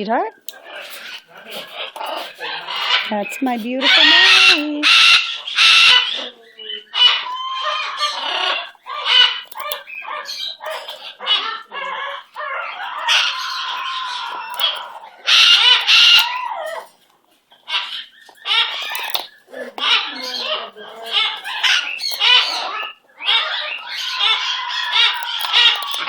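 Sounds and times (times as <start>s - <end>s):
parrot calling: 0.3s - 26.0s.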